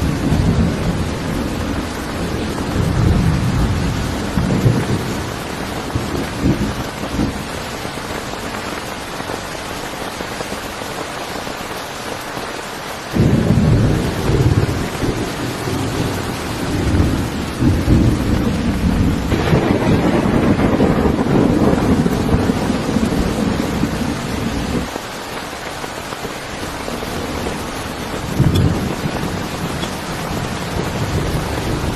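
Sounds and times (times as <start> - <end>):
thunder rumbling: 0.0 - 9.0, 13.1 - 25.0, 26.2 - 31.9
heavy rain: 0.0 - 31.9.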